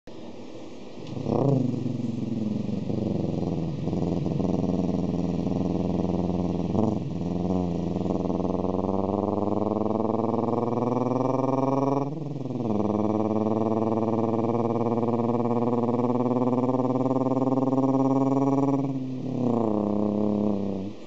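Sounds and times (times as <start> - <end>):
person imitating car engine: 1.1 - 21.0.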